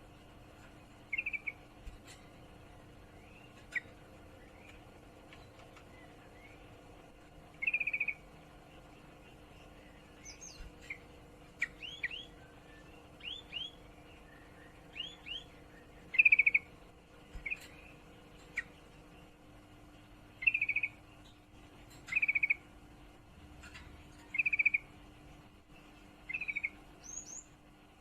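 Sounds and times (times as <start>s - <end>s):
bird chattering trills: 0.8s - 1.7s, 3.0s - 6.8s, 7.5s - 19.4s, 20.3s - 25.0s, 26.2s - 27.6s.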